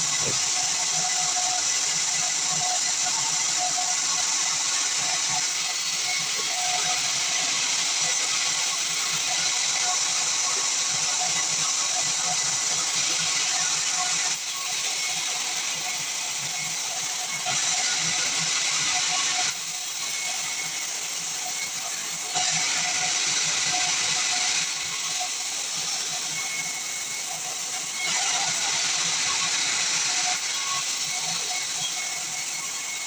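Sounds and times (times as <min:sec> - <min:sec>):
band saw cutting wood: 0:00.0 - 0:33.0.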